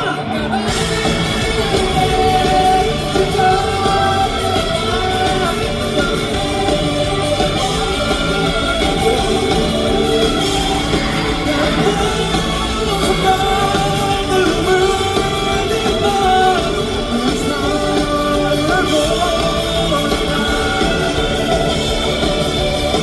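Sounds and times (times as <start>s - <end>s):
live rock band with singing: 0.0s - 23.0s.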